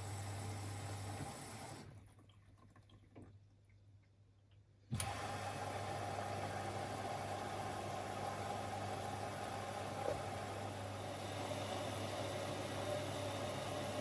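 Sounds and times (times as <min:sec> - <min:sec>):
washing machine taking in water: 0:00.0 - 0:03.8, 0:04.9 - 0:14.0.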